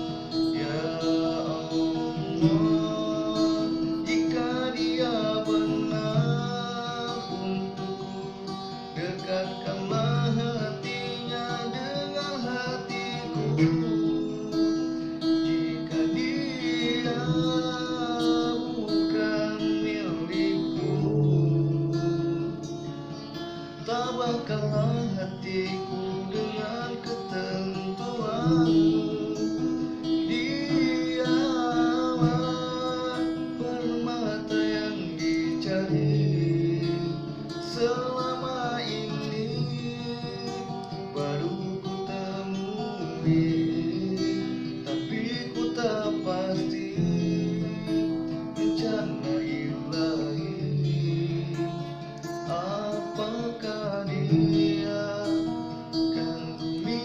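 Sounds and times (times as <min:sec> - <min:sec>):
acoustic guitar strumming: 0:00.0 - 0:57.0
person singing: 0:00.0 - 0:57.0.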